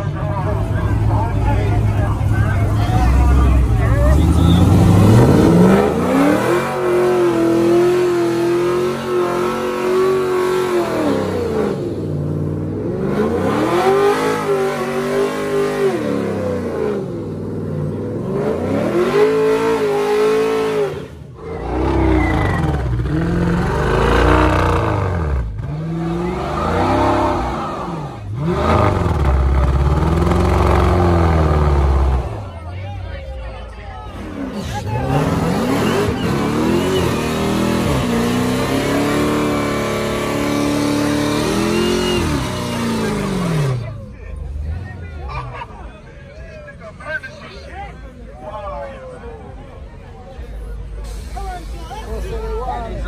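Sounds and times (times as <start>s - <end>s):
car engine revving: 0.0s - 32.6s, 34.0s - 45.0s.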